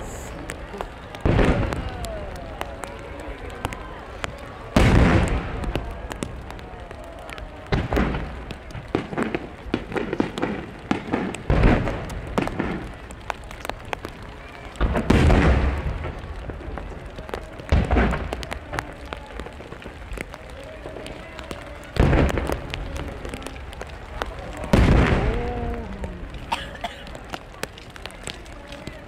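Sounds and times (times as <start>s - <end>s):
fireworks booming: 0.0s - 29.0s
fireworks crackling: 0.0s - 29.0s
rumble after booms: 0.0s - 29.0s.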